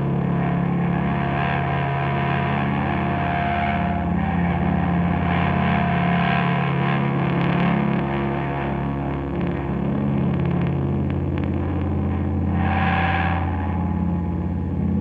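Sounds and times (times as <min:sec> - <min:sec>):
drone music: 0:00.0 - 0:15.0.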